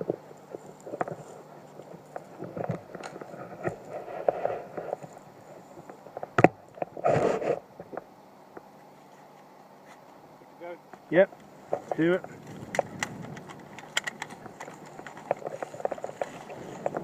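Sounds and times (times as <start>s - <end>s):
rustling and scraping: 0.0s - 8.1s, 8.8s - 10.2s, 11.3s - 17.0s.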